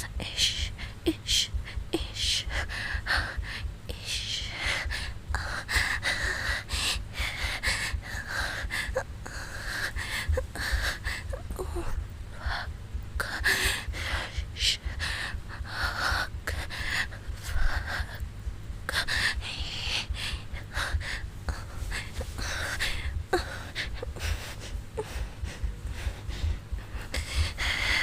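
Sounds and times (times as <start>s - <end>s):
woman breathing heavily: 0.0s - 18.3s, 18.9s - 28.0s.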